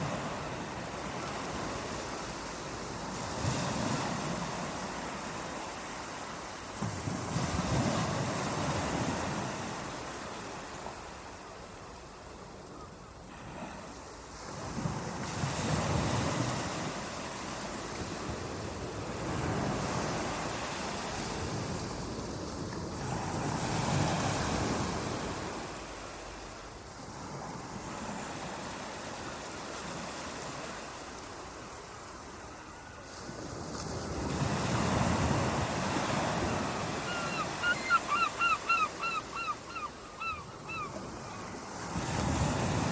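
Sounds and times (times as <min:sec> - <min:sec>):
ocean waves breaking on shore: 0:00.0 - 0:12.6, 0:13.2 - 0:42.9.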